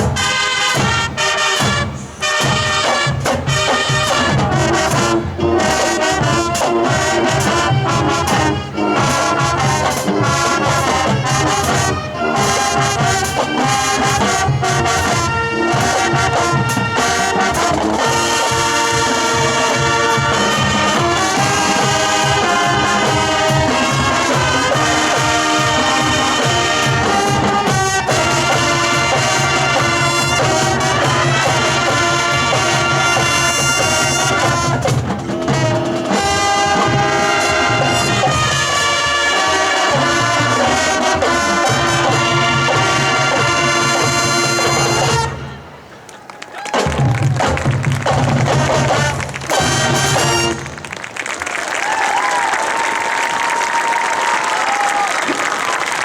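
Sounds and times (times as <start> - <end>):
drumline steady beat: 0.0 - 45.6, 46.5 - 56.0
trumpets and trombones chords: 0.0 - 46.0, 46.8 - 51.0
marching band playing rock: 0.0 - 56.0.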